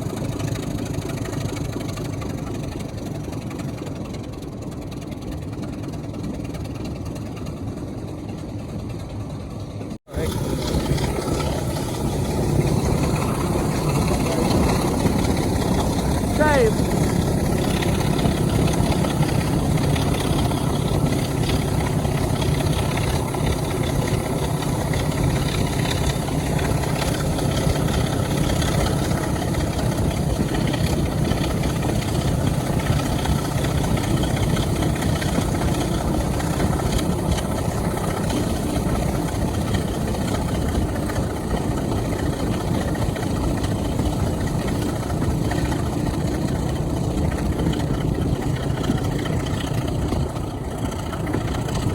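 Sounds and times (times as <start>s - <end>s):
diesel locomotive engine drone: 0.0s - 51.9s.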